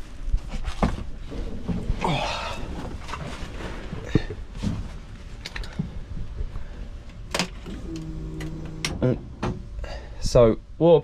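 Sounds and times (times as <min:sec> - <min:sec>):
low background rumble: 0:01.2 - 0:11.0.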